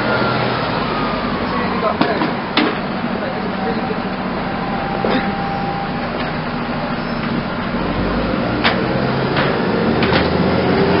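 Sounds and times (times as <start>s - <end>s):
bus engine rumbling: 0.0s - 11.0s
city street traffic: 0.0s - 11.0s.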